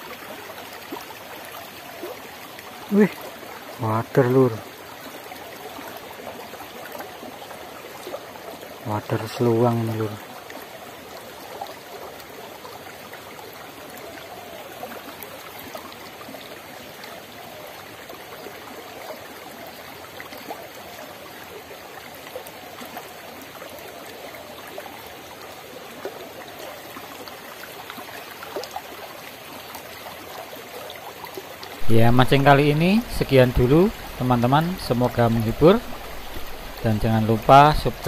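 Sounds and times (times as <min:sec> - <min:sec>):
stream flowing over stones: 0:00.0 - 0:38.0.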